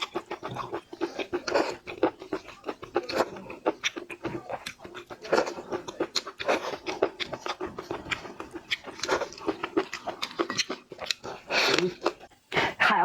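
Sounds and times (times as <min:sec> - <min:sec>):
chewing and mouth smacks: 0:00.0 - 0:12.3.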